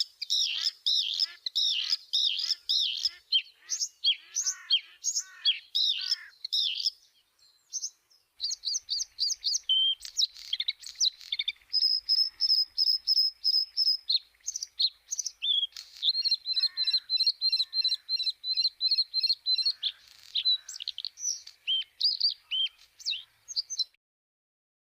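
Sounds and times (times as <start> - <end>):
bird singing high chirps and whistles: 0.0 - 24.0.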